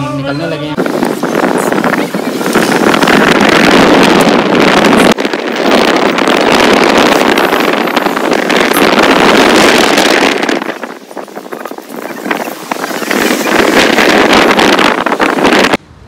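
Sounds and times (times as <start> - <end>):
road and engine noise: 0.0 - 16.0
wind buffeting microphone: 0.7 - 16.0.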